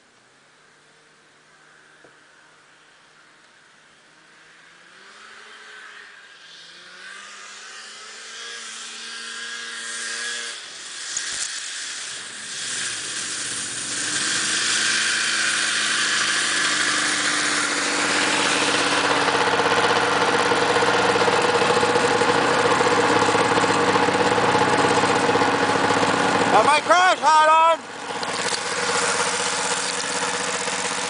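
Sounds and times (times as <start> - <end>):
snowmobile track running: 0.6 - 31.0
snowmobile engine revving: 4.2 - 31.0.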